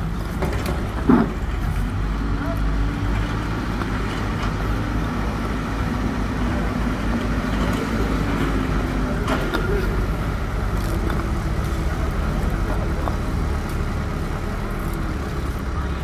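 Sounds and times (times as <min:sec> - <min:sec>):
backhoe diesel engine running: 0:00.0 - 0:16.0
paving stones clacking: 0:00.0 - 0:16.0.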